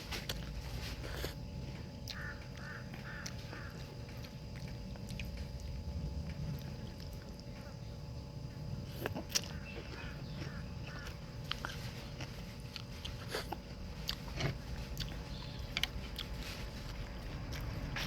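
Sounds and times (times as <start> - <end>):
person chewing: 0.0 - 8.0, 8.8 - 18.0
steady low hum: 0.0 - 18.0.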